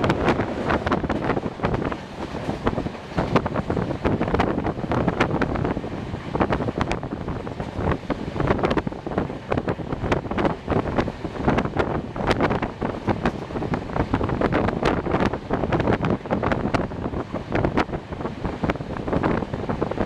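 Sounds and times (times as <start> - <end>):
steady rushing noise: 0.0 - 20.0
train wheels clicking on track: 0.0 - 20.0
wind on microphone: 0.0 - 20.0.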